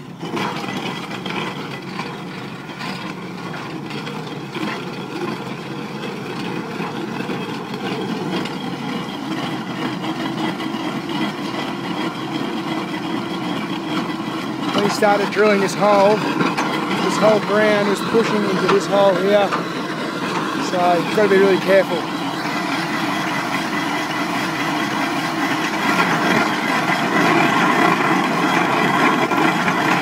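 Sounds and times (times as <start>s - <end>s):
earth auger grinding rock: 0.0s - 30.0s
machine engine running: 0.0s - 30.0s.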